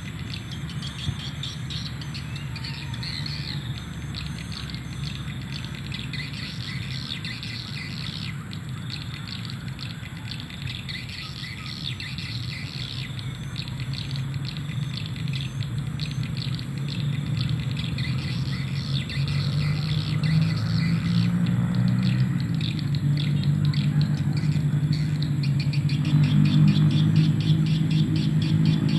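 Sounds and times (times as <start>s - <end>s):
insects trilling: 0.0s - 28.9s.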